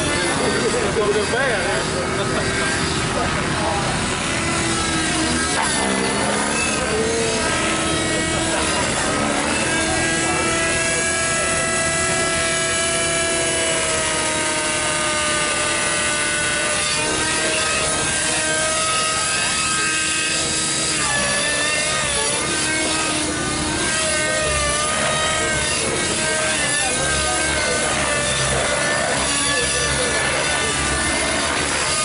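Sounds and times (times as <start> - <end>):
rc helicopter engine and rotor: 0.0 - 32.0.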